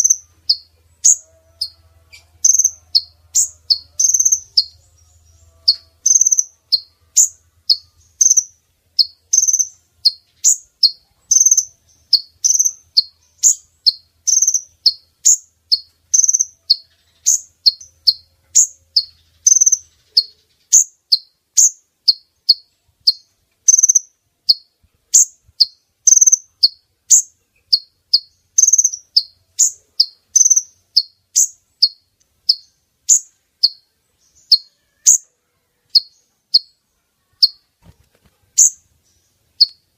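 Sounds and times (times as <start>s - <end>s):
sunbird high chirps: 0.0s - 37.8s, 38.6s - 39.9s.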